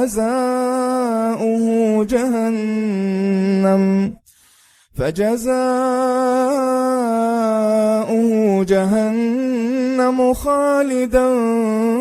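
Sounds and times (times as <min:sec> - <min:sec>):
man chanting recitation: 0:00.0 - 0:04.2, 0:05.0 - 0:12.0.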